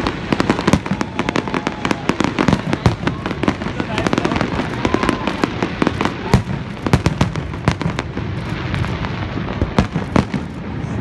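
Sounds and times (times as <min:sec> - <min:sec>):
fireworks bangs and cracks: 0:00.0 - 0:11.0
fireworks crackling: 0:00.0 - 0:11.0
loud fireworks booms: 0:00.0 - 0:11.0.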